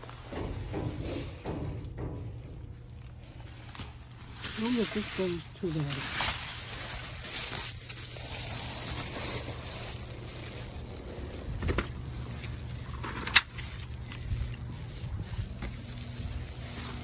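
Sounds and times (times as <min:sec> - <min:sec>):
low rumble: 0:00.0 - 0:17.0
plastic bags rustling: 0:02.2 - 0:17.0.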